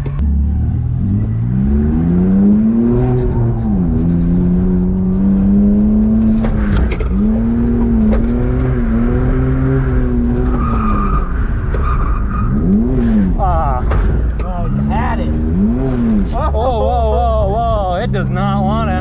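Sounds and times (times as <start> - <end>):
car engine revving high: 0.0 - 11.5, 14.6 - 19.0.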